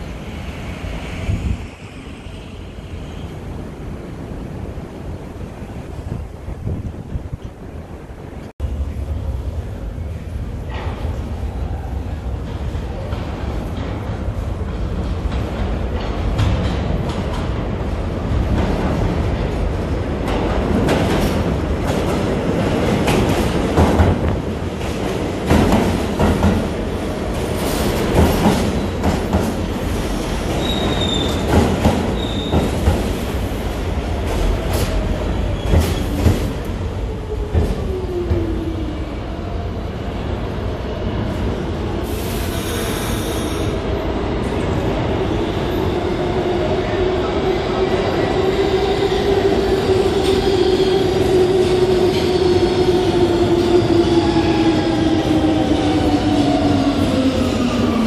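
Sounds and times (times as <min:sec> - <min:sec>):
subway train wheels rumbling: 0:00.0 - 0:58.0.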